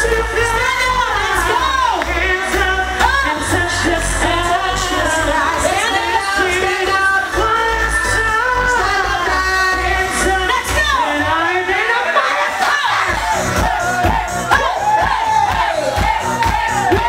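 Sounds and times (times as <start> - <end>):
heavy bass: 0.0 - 17.0
pop music with singing: 0.0 - 17.0.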